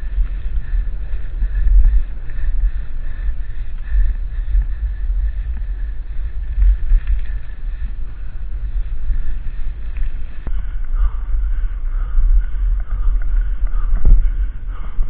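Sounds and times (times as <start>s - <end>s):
bike rattle and trail noise: 0.0s - 15.0s
wind buffeting microphone: 0.0s - 15.0s.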